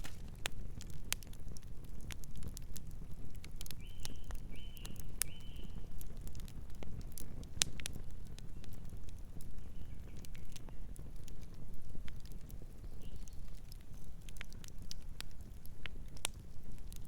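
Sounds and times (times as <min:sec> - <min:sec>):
campfire crackling and popping: 0:00.0 - 0:17.0
low rumble of burning fire: 0:00.0 - 0:17.0.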